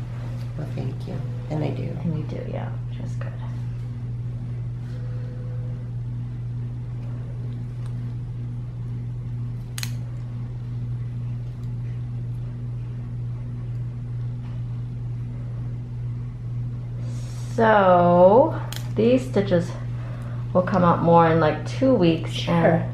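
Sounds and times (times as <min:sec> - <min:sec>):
low fan hum: 0:00.0 - 0:22.9.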